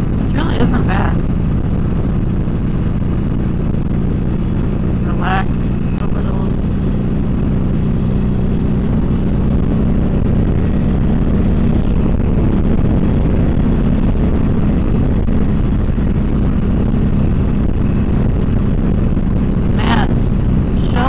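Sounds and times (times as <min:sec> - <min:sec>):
motorcycle engine at highway speed: 0:00.0 - 0:21.0.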